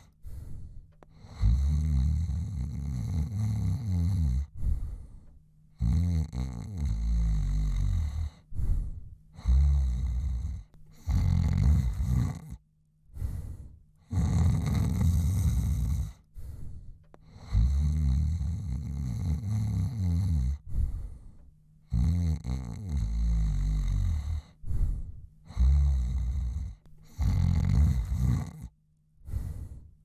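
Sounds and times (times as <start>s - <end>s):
man snoring: 0.0s - 12.6s, 13.2s - 21.2s, 21.8s - 29.8s
quiet breaths: 0.0s - 30.0s.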